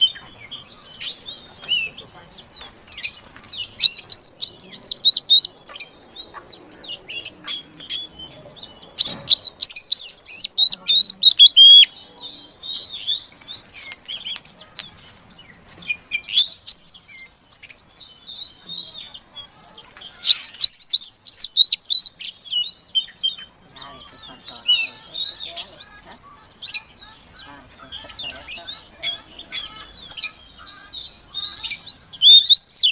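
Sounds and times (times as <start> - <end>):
bird chirping and twittering: 0.0 - 32.9.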